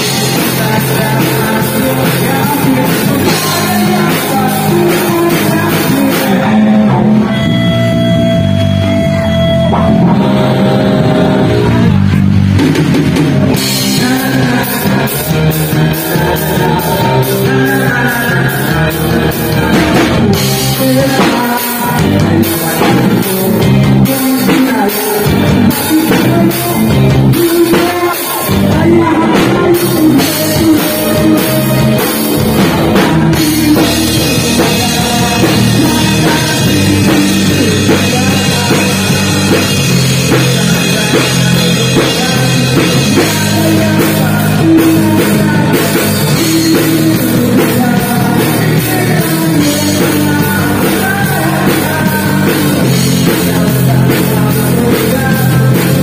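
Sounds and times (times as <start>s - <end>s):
drums: 0.0s - 56.0s
live rock band playing: 0.0s - 56.0s.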